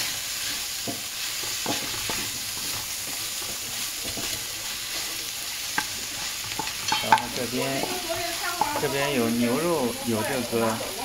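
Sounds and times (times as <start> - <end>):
stir-fry sizzling in a wok: 0.0 - 11.0
wooden spatula scraping a pan: 0.0 - 11.0.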